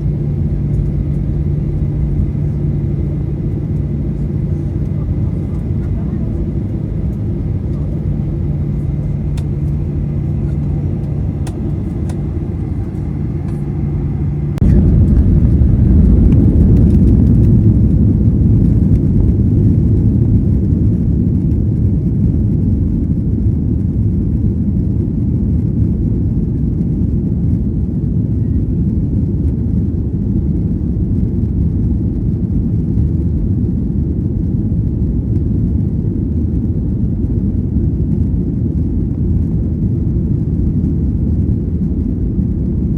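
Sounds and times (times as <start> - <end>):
jet engines rumbling: 0.0 - 42.9.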